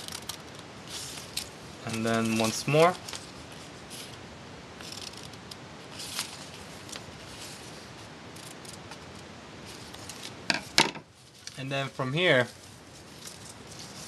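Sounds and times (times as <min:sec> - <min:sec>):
paper rustling: 0:00.0 - 0:04.2, 0:04.8 - 0:14.0
low hiss: 0:00.0 - 0:14.0.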